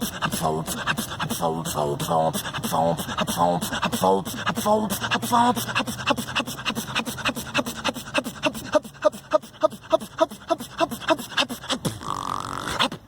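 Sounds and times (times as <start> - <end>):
beatboxing vocal percussion: 0.0 - 13.0.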